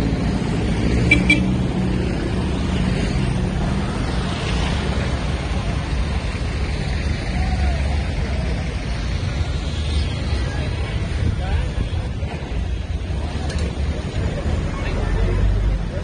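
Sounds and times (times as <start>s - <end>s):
steady traffic rush: 0.0s - 16.0s
vehicle engine humming: 0.0s - 16.0s.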